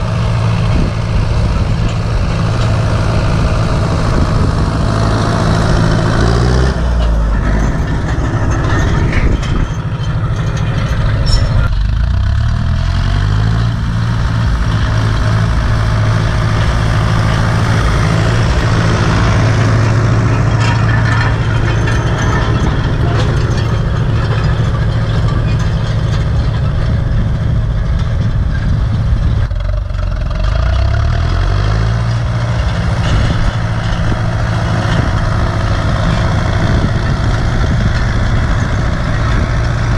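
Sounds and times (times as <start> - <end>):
tractor diesel engine running hard: 0.0 - 39.9.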